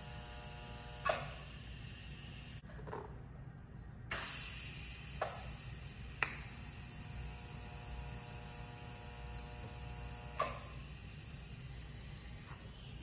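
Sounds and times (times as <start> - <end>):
welding arc buzzing hum: 0.0 - 2.6, 4.1 - 13.0.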